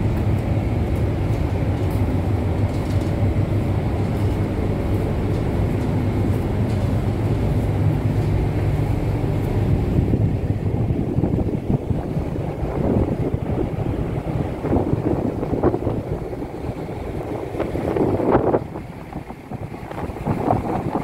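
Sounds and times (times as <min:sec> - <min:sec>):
rush of the sea: 0:00.0 - 0:21.0
ship engine drone: 0:00.0 - 0:21.0.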